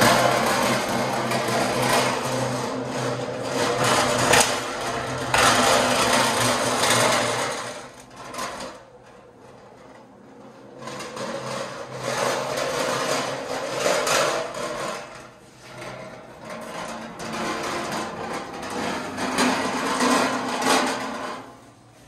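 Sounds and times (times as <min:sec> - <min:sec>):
casters rolling on concrete: 0:00.0 - 0:21.8.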